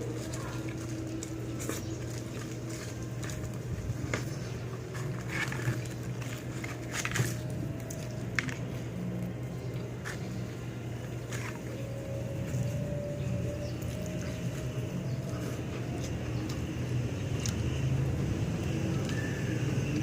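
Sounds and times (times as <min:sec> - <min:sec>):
chewing crunches: 0:00.0 - 0:20.0
low hum: 0:00.0 - 0:20.0.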